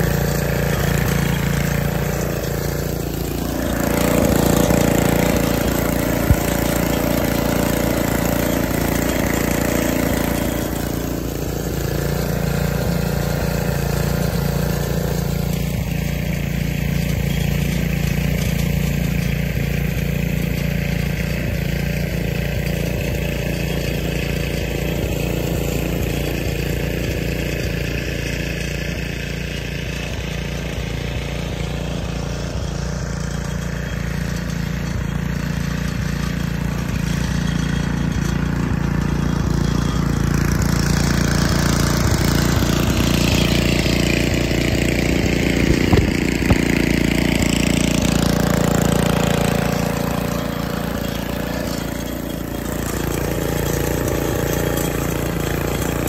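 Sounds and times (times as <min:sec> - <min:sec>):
snowblower engine running: 0:00.0 - 0:56.0.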